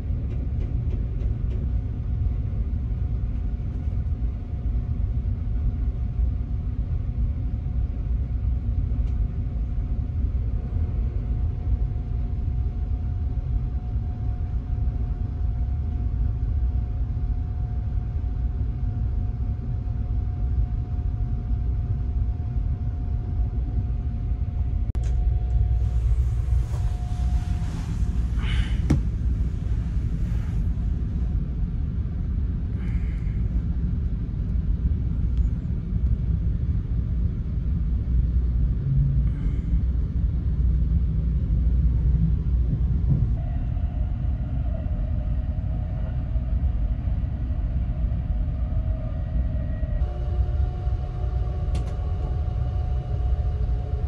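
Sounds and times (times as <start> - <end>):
train compartment rumble: 0.0 - 54.0.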